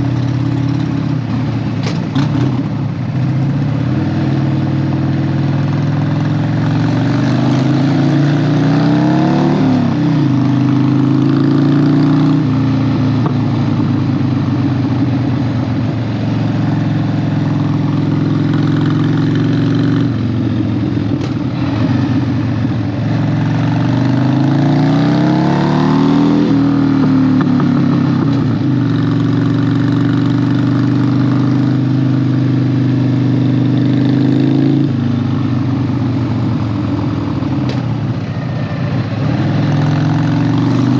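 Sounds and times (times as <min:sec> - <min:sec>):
motorcycle engine changing gears: 0:00.0 - 0:40.9.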